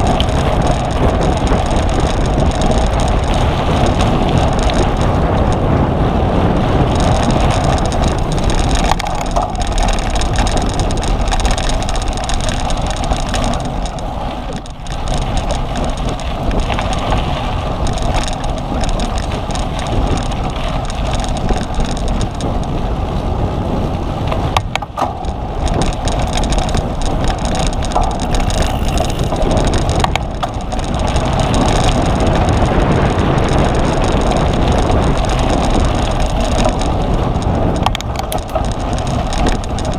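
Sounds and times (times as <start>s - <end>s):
bike rattling over rough ground: 0.0s - 39.9s
wind rush on microphone: 0.0s - 39.9s.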